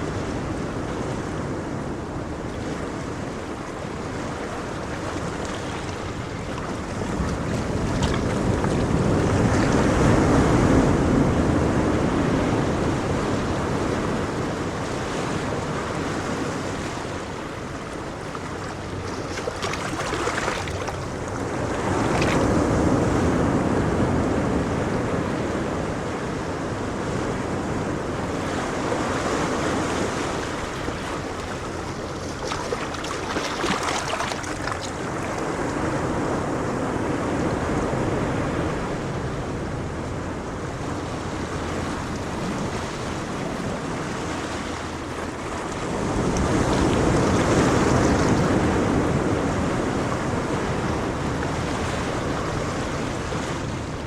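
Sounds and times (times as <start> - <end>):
ocean waves breaking on shore: 0.0 - 54.0
wind: 0.0 - 54.0.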